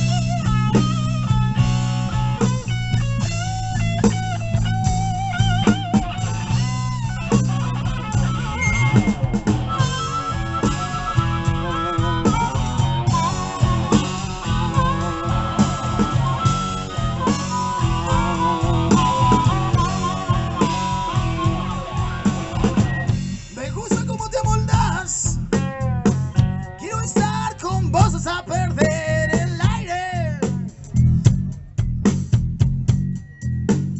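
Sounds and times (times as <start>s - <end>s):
electric guitar lead: 0.0s - 23.7s, 24.7s - 31.7s
blues-rock band playing live: 0.0s - 33.9s.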